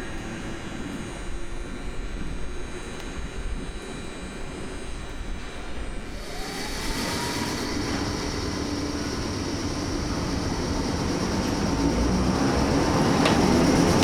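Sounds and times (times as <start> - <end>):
electric locomotive motor whine: 0.0 - 14.0.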